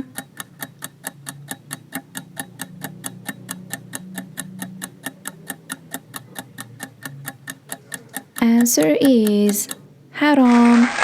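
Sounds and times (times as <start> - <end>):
clock ticking quickly: 0.0 - 11.0.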